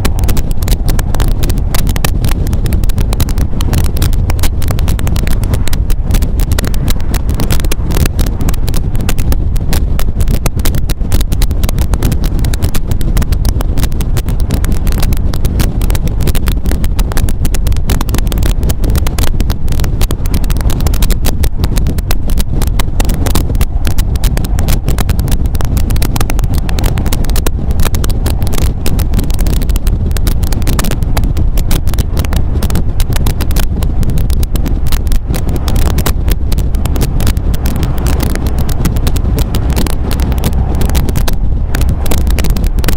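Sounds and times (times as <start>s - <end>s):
car engine running: 0.0s - 42.9s
wind buffeting microphone: 0.0s - 42.9s.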